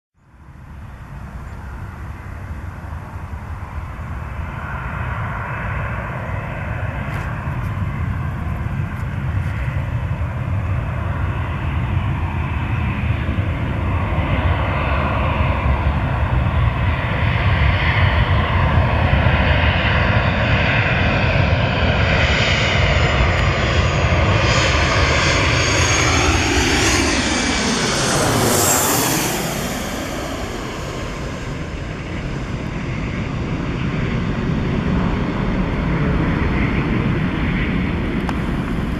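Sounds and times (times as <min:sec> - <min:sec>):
jet engines whining: 0:00.3 - 0:38.9.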